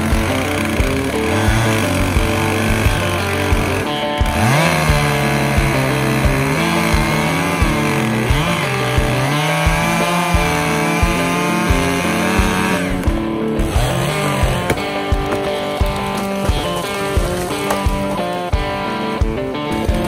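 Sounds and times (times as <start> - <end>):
background music with steady beat: 0.0 - 20.0
chainsaw cutting wood: 0.0 - 20.0.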